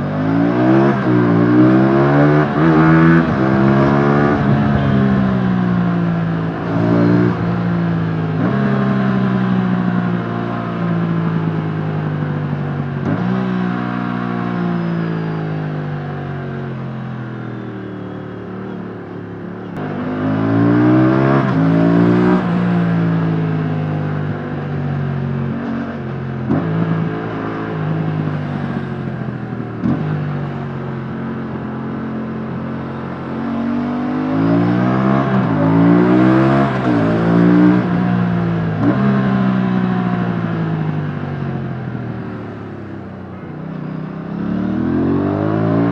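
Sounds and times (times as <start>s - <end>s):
motorcycle engine revving: 0.0s - 18.2s, 19.7s - 45.9s.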